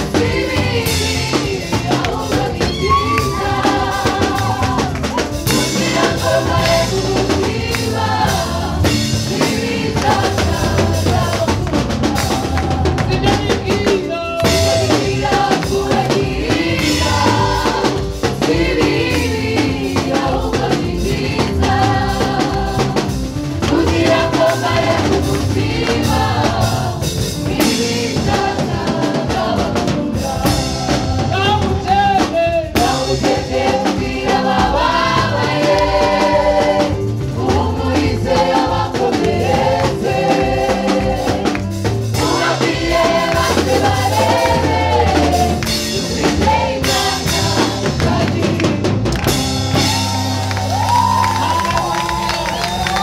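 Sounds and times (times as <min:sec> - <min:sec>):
band with drum kit: 0:00.0 - 0:53.0.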